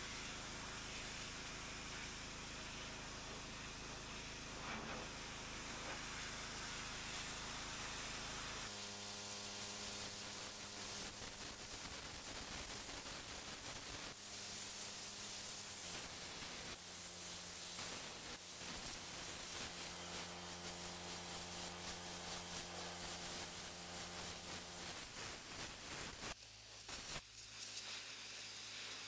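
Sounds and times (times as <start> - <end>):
pressure washer spraying paving: 0.0 - 29.0.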